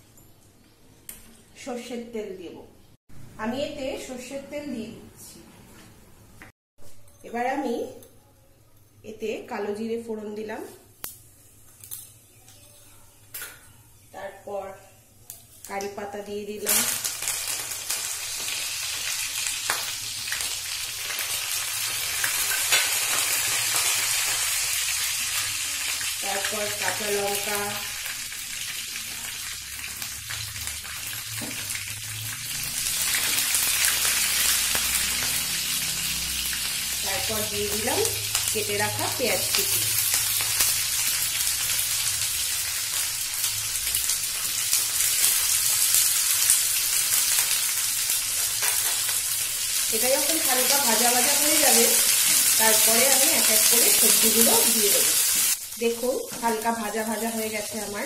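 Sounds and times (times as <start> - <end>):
leaves sizzling in hot oil: 11.0 - 58.0.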